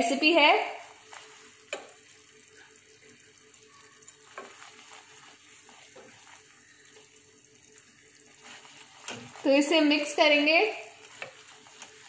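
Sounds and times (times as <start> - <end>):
sauce bubbling and sizzling: 0.0 - 12.0
spatula stirring in pan: 0.8 - 12.0.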